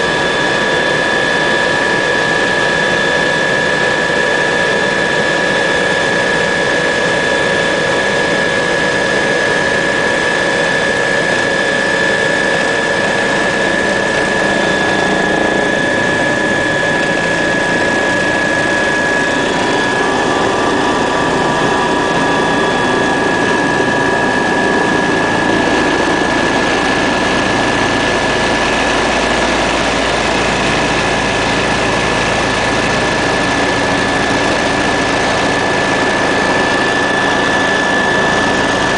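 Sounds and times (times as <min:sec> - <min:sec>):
helicopter turbine engine whine: 0:00.0 - 0:38.9.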